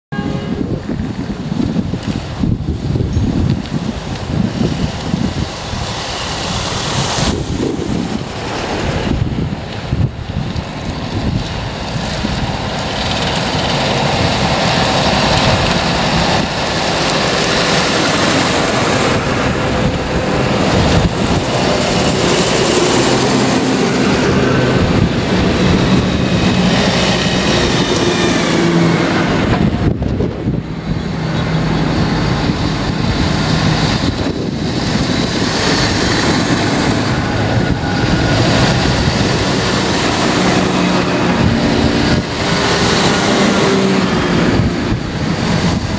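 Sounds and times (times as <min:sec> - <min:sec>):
tractor diesel engines passing: 0:00.1 - 0:45.9.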